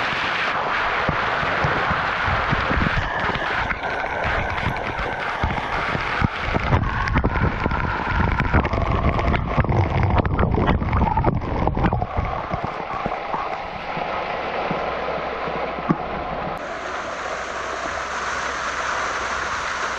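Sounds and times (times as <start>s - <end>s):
water buffeting microphone: 0.0s - 19.9s
waterfall rushing: 0.0s - 19.9s.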